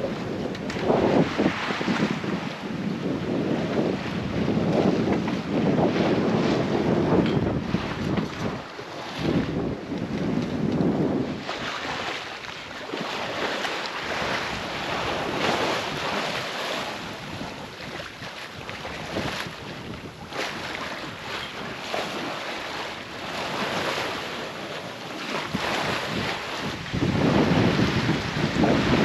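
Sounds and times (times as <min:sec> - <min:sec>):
water splashing along hull: 0:00.0 - 0:29.0
wind buffeting microphone: 0:00.0 - 0:29.0.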